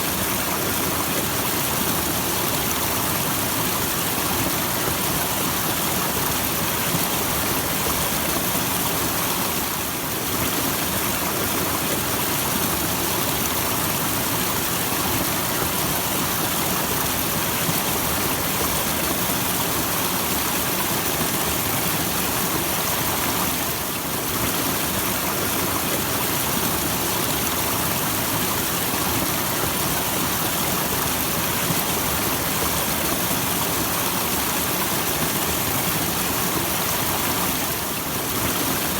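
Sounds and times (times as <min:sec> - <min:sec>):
small waterfall splashing: 0:00.0 - 0:38.9.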